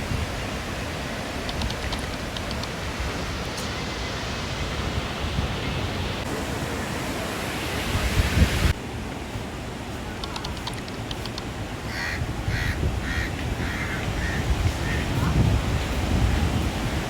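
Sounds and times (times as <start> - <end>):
sea surf: 0.0 - 17.0
wind: 0.0 - 17.0.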